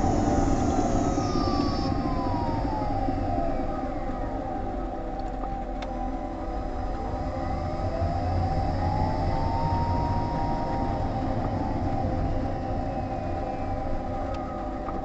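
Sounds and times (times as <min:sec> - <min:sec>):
electric drive whining: 0:00.0 - 0:15.0
road and drivetrain rumble: 0:00.0 - 0:15.0.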